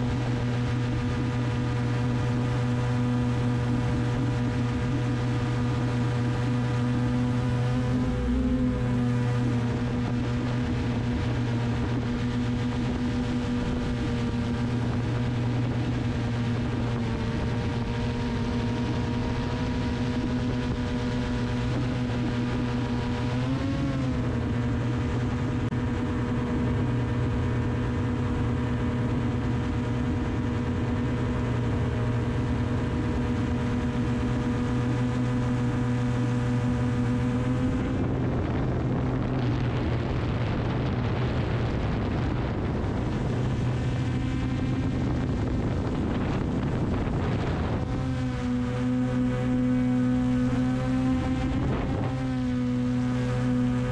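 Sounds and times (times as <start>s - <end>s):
drone propellers humming: 0.0s - 53.9s.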